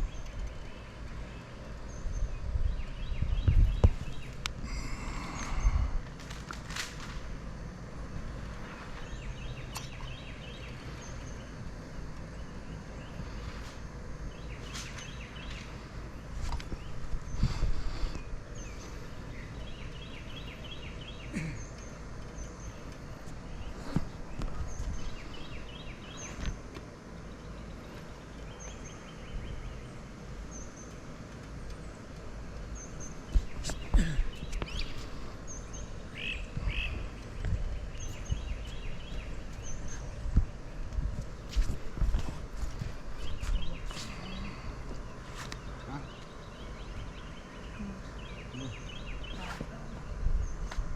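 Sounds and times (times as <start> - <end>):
birds chirping: 0.0 - 50.9
steady low rumble: 0.0 - 50.9.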